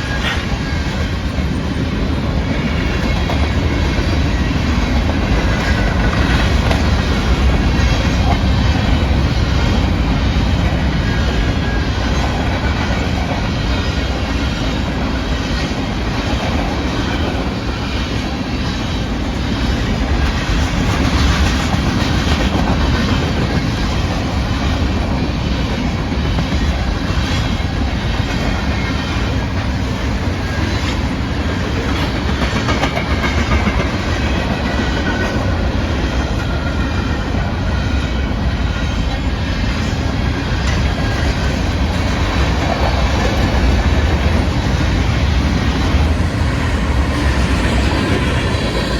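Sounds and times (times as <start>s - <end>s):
freight train passing: 0.0s - 48.9s.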